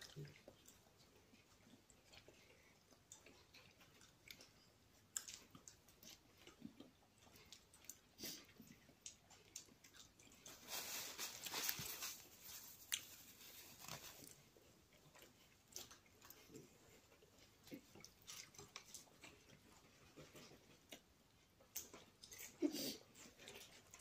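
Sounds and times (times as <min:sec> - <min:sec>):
chewing soft food: 0:00.0 - 0:24.0.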